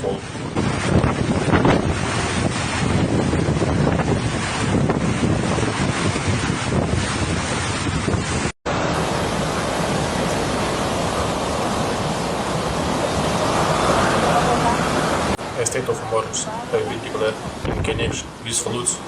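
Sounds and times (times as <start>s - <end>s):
heavy surf: 0.0s - 19.0s
hurricane wind on microphone: 0.0s - 19.0s.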